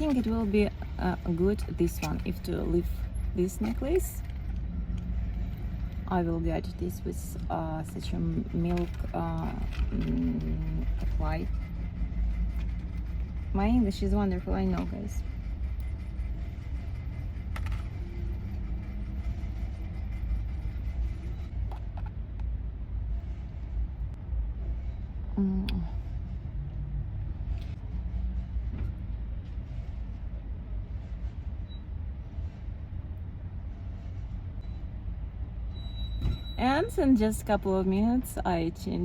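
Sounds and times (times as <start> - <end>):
low vehicle rumble in car cabin: 0.0 - 39.0.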